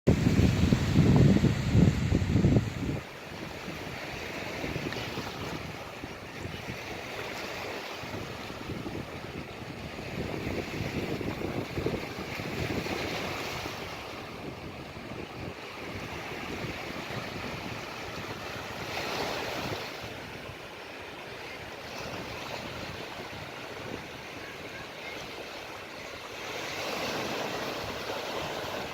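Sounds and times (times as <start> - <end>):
ocean waves breaking: 0.1 - 28.9.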